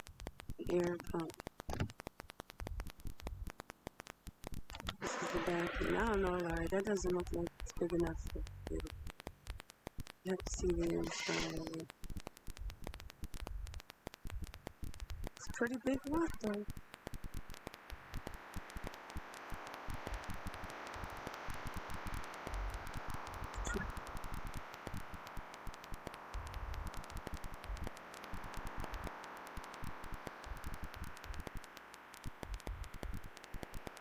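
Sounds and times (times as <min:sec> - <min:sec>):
crackling static: 0:00.0 - 0:34.0
dense clicks: 0:00.0 - 0:34.0
steady hiss: 0:00.0 - 0:34.0.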